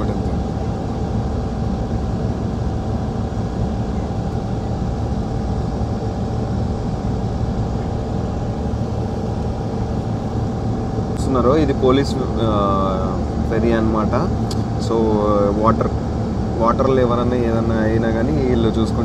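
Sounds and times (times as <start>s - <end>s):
ferry engine rumble: 0.0s - 19.0s
steady engine whine: 0.0s - 19.0s.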